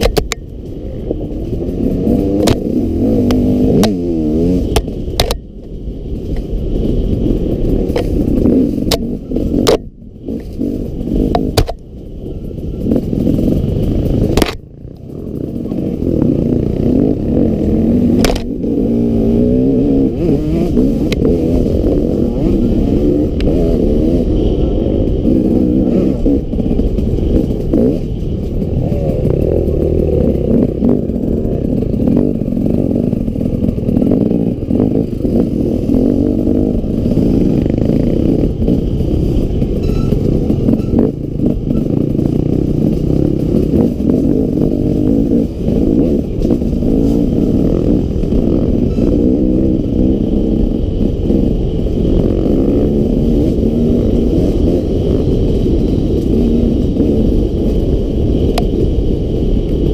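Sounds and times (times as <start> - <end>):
knocks and rattles over bumps: 0.0 - 59.0
dirt bike engine revving: 0.0 - 59.9.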